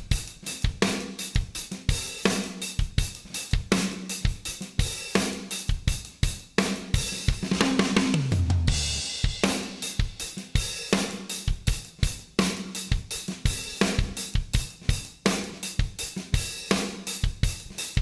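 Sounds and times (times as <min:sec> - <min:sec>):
drum kit groove: 0:00.0 - 0:18.0
fast falling drum run: 0:00.0 - 0:18.0.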